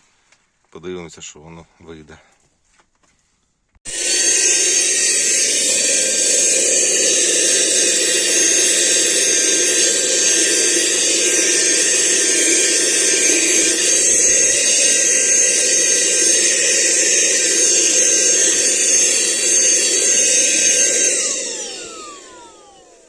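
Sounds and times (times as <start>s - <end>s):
vacuum cleaner motor whine: 3.9s - 23.0s.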